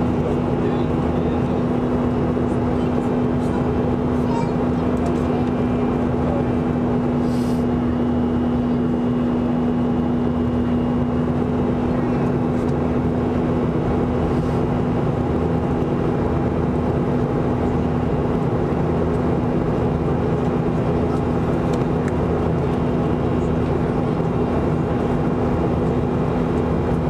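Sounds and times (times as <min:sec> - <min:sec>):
airplane cabin engine noise: 0:00.0 - 0:27.0
steady low hum: 0:00.0 - 0:27.0.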